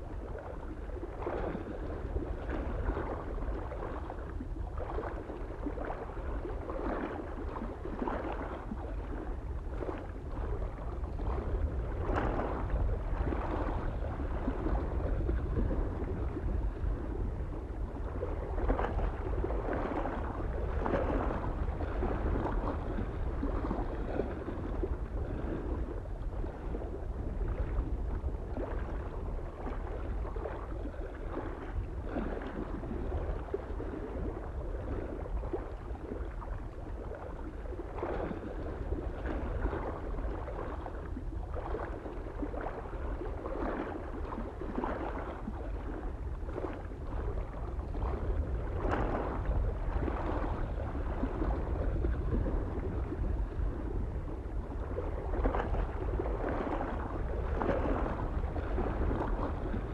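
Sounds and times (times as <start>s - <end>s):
low wind rumble: 0.0s - 59.9s
small waves lapping on shore: 0.0s - 59.9s.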